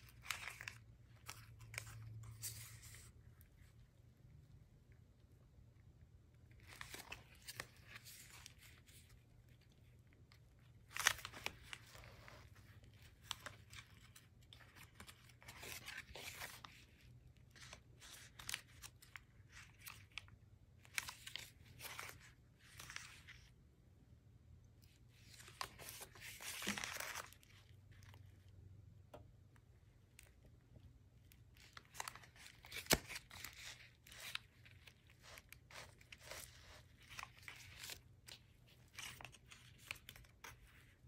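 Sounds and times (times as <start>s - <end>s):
paper rustling and crinkling: 0.0s - 3.9s, 6.5s - 23.5s, 24.8s - 28.4s, 31.2s - 41.0s.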